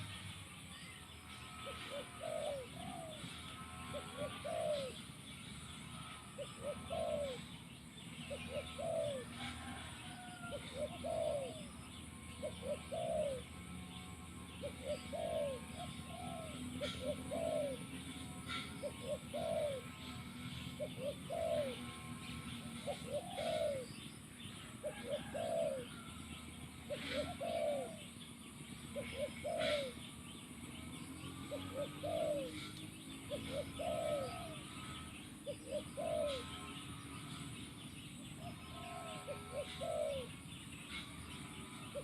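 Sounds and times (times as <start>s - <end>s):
dove cooing: 0.0s - 42.0s.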